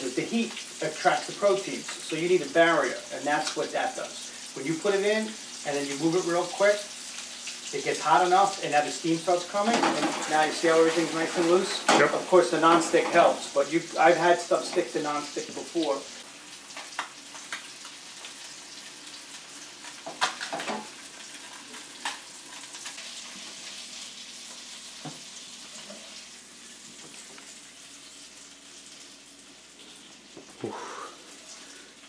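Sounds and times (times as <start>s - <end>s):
fish sizzling in a pan: 0.0s - 32.0s.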